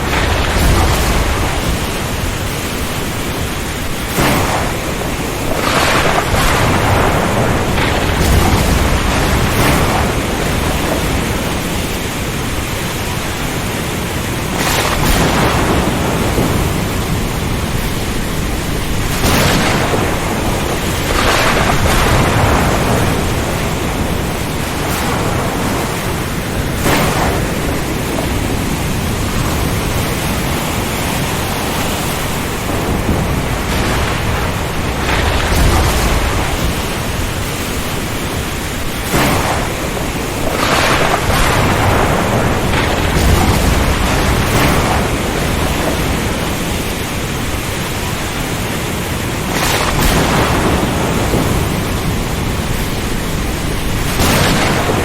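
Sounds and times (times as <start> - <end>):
rain: 0.0 - 55.0
surf: 0.0 - 55.0
thunder rumbles: 0.0 - 55.0
wind roaring: 0.0 - 55.0.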